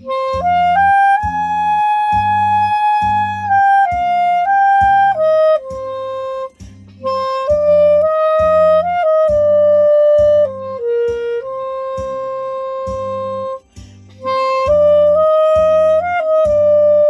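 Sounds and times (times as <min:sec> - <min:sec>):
clarinet melody: 0:00.0 - 0:17.0
steady low beat: 0:00.0 - 0:17.0.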